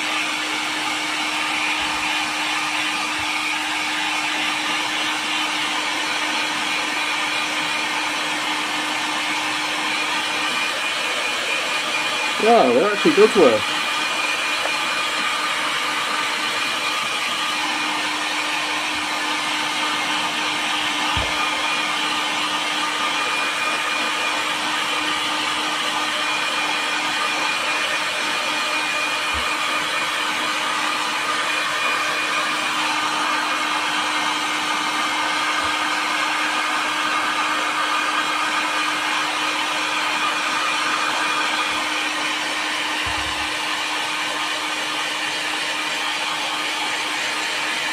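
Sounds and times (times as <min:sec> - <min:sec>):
heat gun blowing hot air: 0:00.0 - 0:47.9.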